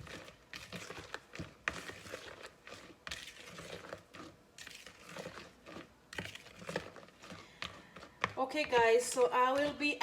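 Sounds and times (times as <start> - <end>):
soft scraping of mixture: 0.0 - 10.0.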